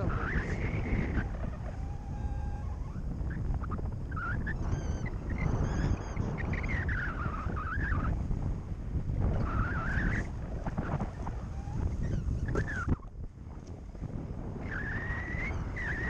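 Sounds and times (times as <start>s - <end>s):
faint wavering tones: 0.0s - 16.0s
wind buffeting microphone: 0.0s - 16.0s.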